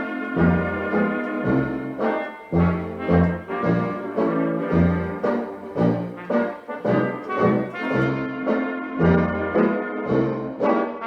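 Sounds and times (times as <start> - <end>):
brass instruments playing a tune: 0.0 - 11.0.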